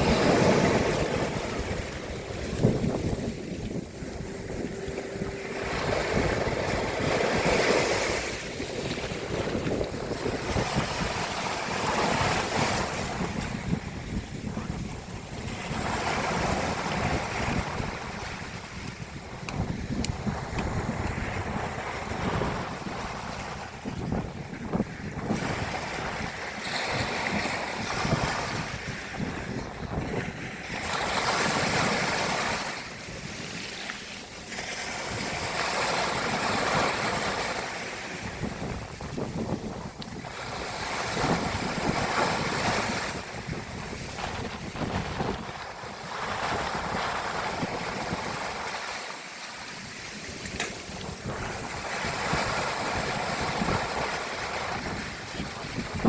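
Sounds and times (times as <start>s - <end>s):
sea waves breaking on shore: 0.0s - 56.0s
wind rumbling on microphone: 0.0s - 56.0s.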